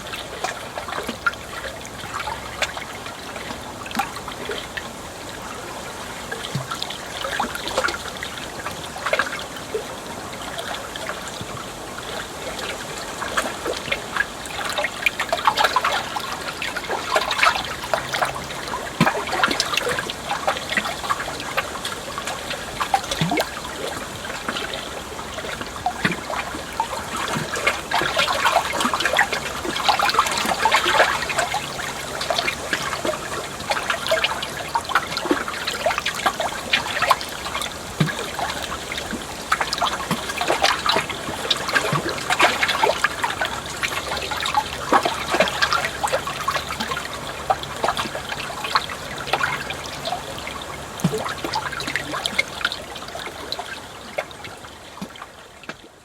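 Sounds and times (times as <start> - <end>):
water trickling and splashing: 0.0 - 56.0.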